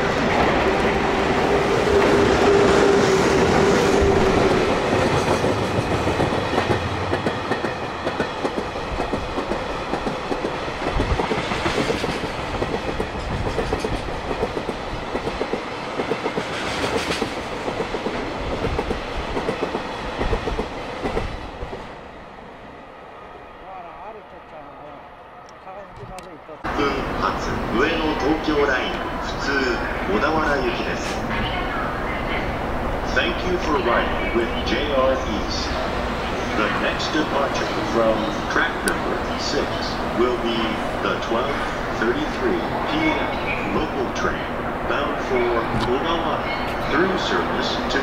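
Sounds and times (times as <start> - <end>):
electric locomotive whine: 0.0 - 14.4, 19.9 - 48.0.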